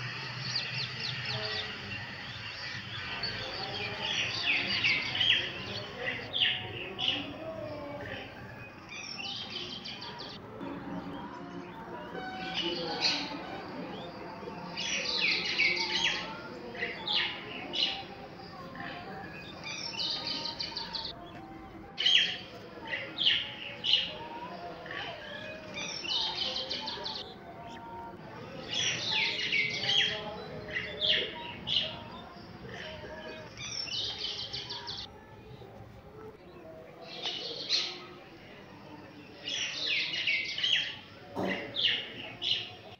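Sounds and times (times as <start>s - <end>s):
birds calling high-pitched: 0.0s - 35.1s.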